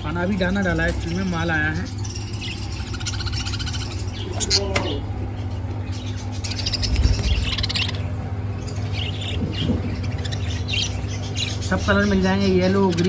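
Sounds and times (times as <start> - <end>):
budgerigars chirping: 0.0 - 13.0
steady low hum: 0.0 - 13.0.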